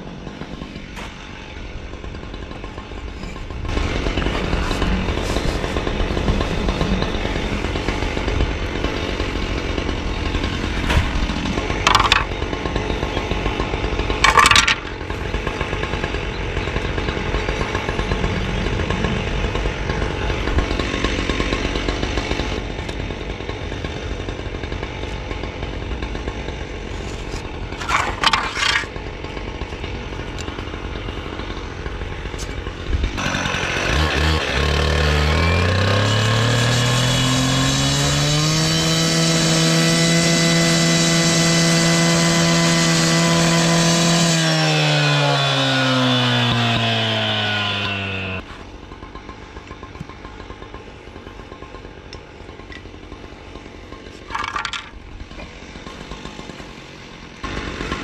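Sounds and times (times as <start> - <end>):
cut-off saw engine idling: 0.1 - 58.0.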